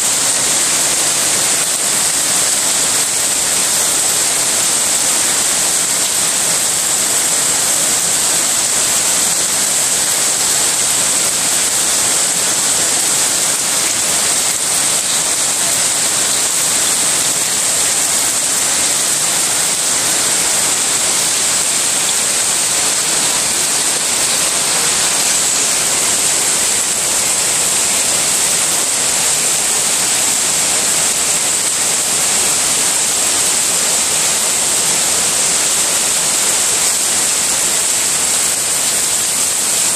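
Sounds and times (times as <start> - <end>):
heavy rain splashing on paving: 0.0 - 39.9.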